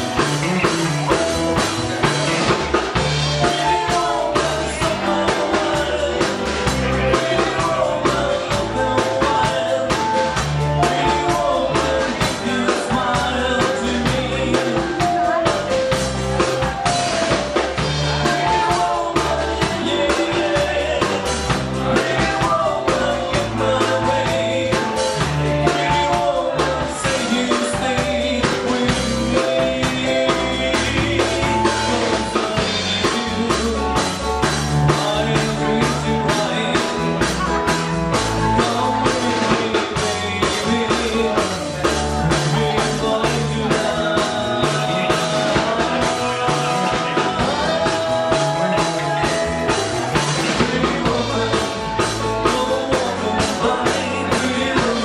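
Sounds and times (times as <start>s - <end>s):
rock music with drums and bass: 0.0s - 55.0s.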